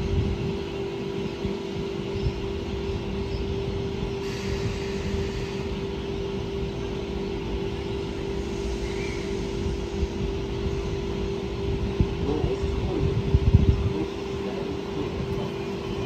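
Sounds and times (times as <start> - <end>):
steady train hum: 0.0 - 16.0.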